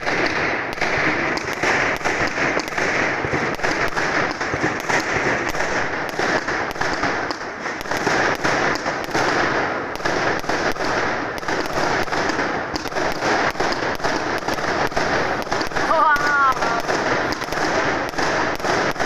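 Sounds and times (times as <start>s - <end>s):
distant explosions rumbling: 0.0s - 19.0s
fireworks crackling and banging: 0.0s - 19.0s.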